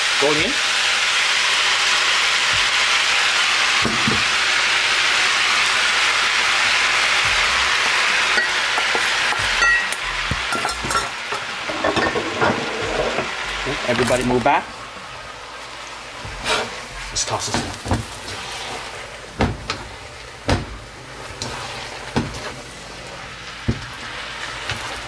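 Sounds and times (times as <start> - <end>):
noodles sizzling in a hot pan: 0.0 - 25.0.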